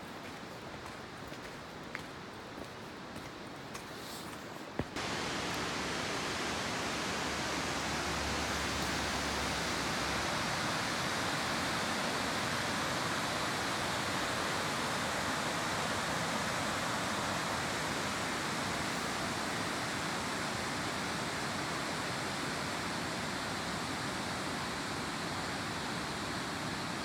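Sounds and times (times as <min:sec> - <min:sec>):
waterfall rushing: 0:05.0 - 0:27.0.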